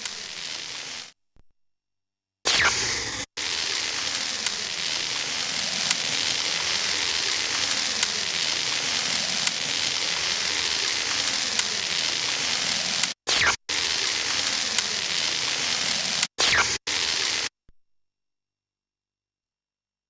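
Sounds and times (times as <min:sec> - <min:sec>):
crackling hiss: 0:00.0 - 0:01.1, 0:02.5 - 0:17.5.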